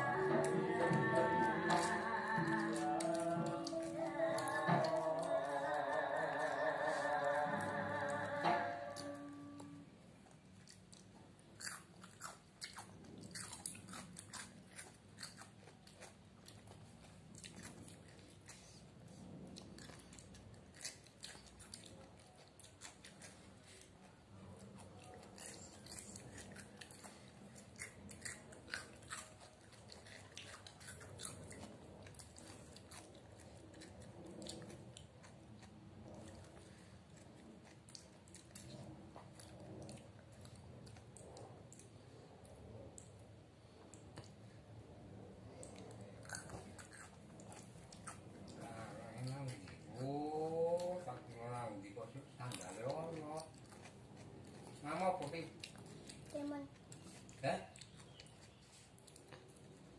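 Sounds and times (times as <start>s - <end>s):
crunchy chewing of cucumber: 0.0s - 59.9s.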